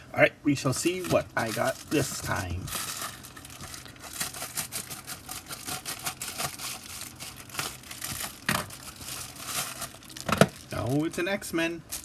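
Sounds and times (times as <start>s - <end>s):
packaging crackling and rustling: 0.7s - 12.0s.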